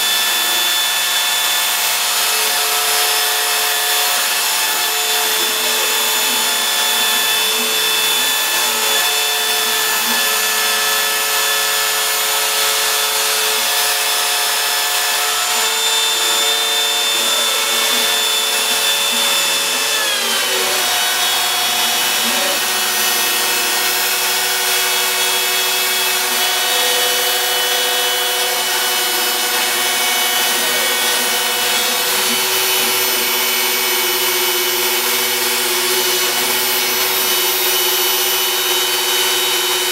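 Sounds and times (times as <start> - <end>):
router spindle whining: 0.0 - 39.9
stepper motor whines: 0.0 - 39.9.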